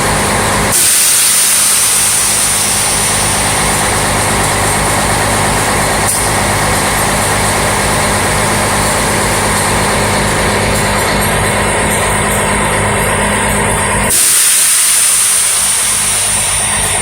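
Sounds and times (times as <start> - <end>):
compressed air hissing: 0.0 - 17.0
truck diesel engine running: 2.0 - 14.1, 15.4 - 17.0.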